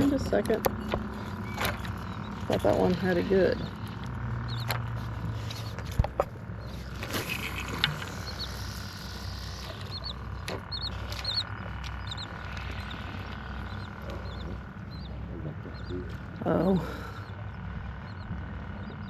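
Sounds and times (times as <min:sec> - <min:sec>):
low rumble of wind and water: 0:00.0 - 0:19.0.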